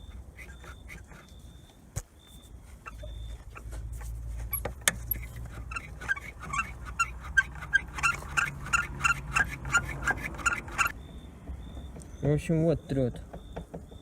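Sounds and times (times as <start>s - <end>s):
handbrake cable squeaking: 0.0s - 12.2s.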